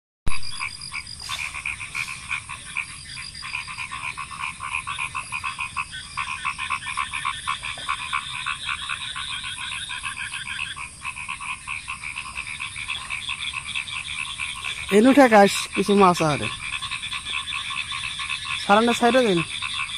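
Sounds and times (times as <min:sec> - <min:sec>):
chorus of frogs croaking: 0:00.3 - 0:19.9.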